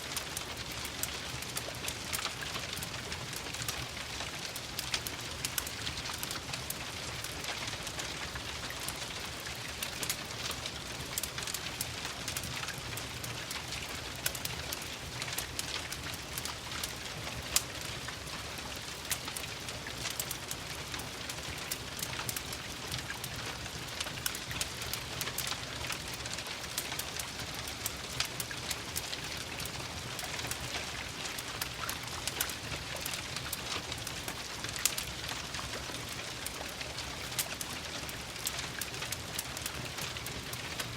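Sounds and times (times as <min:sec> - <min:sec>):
steady rain: 0:00.0 - 0:40.9
wood fire crackling: 0:00.0 - 0:40.9.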